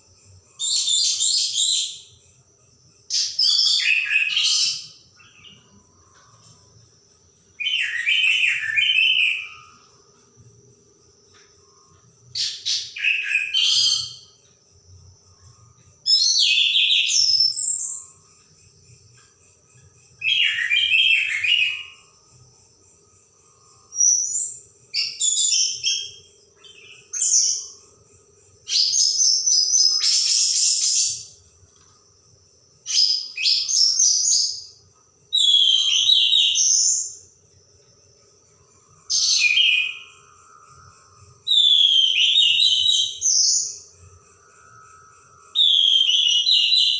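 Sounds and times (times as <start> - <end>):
faint steady high tone: 0.0 - 46.9.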